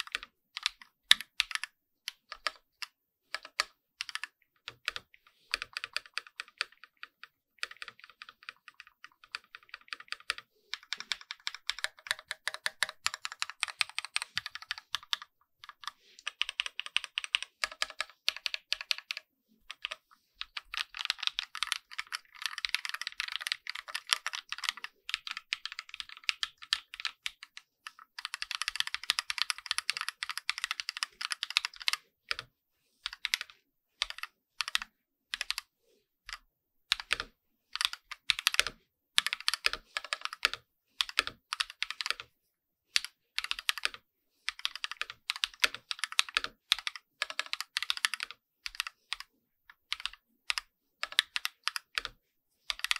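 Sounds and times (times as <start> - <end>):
mechanical keyboard typing: 0.0 - 35.7, 36.3 - 42.3, 42.9 - 52.9.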